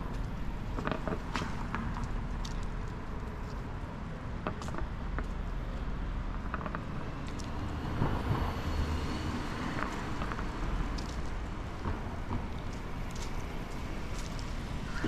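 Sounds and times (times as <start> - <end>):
footsteps on pavement: 0.0 - 15.0
traffic hum: 0.0 - 15.0.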